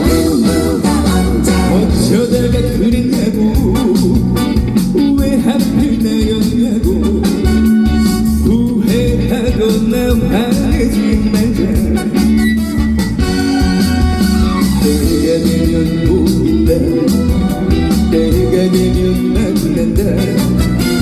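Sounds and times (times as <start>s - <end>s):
guitar lines: 0.0s - 21.0s
live band playing: 0.0s - 21.0s
steady drum beat: 0.0s - 21.0s.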